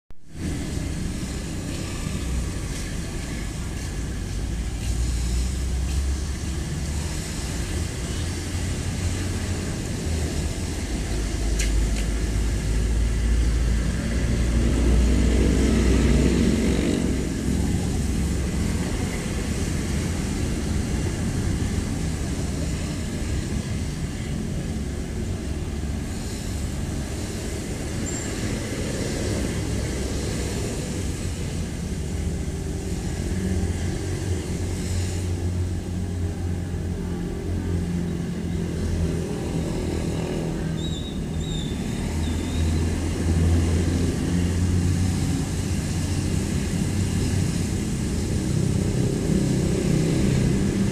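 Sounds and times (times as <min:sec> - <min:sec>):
road traffic rumble: 0:00.1 - 0:50.9
vehicle passing close: 0:00.3 - 0:50.9.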